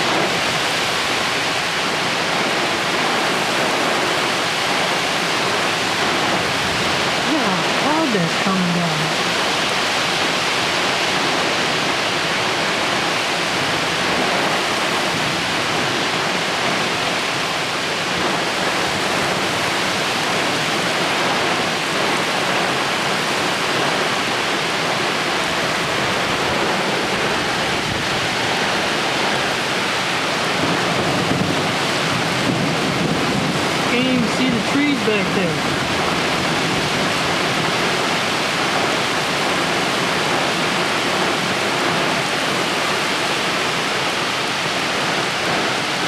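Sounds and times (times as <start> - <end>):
heavy rain downpour: 0.0 - 46.0.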